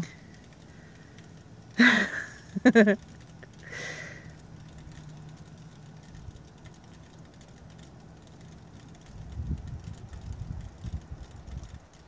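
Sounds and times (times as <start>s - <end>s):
bath bomb fizzing crackle: 0.1s - 10.8s.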